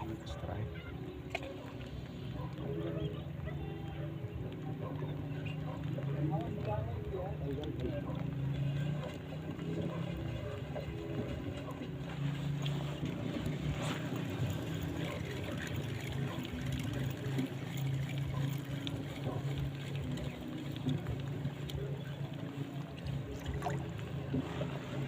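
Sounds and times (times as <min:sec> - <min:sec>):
boat motor humming: 0:00.0 - 0:25.0
water trickling and splashing: 0:00.0 - 0:25.0.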